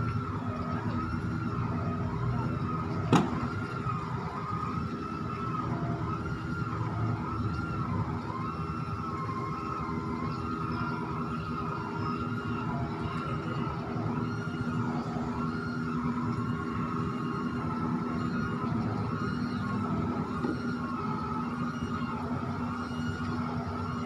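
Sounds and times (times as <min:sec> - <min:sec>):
winch machinery running: 0:00.0 - 0:24.0.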